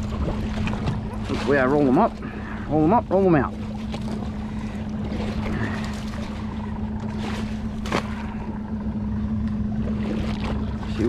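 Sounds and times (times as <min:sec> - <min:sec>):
steady low hum: 0:00.0 - 0:11.0
wind and water rush: 0:00.0 - 0:11.0.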